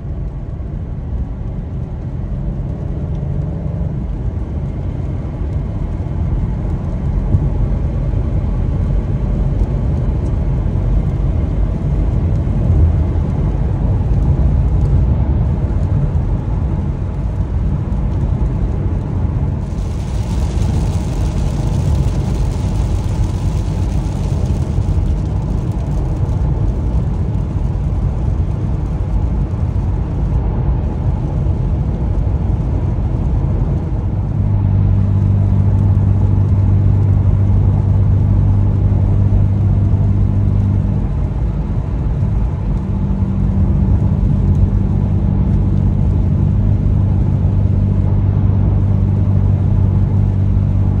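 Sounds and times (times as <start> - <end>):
low exhaust drone: 0.0 - 51.0
road wind and tyre noise: 0.0 - 51.0.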